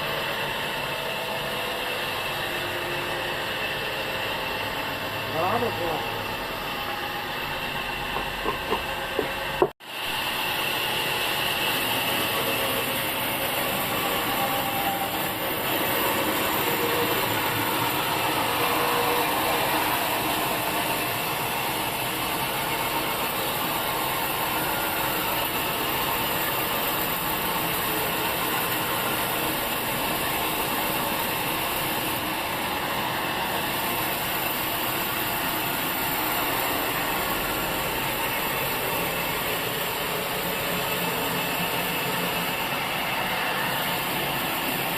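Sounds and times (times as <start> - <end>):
sawmill machinery running: 0.0 - 44.9.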